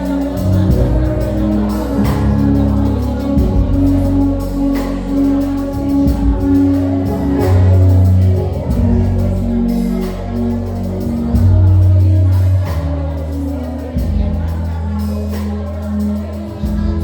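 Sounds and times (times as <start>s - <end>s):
heavy bass line: 0.0s - 17.0s
live gospel band music: 0.0s - 17.0s
people singing: 0.0s - 17.0s.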